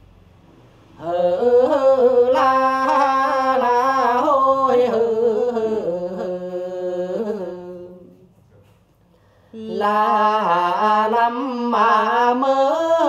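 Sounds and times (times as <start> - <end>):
man singing unaccompanied: 1.0 - 8.2, 9.6 - 13.0.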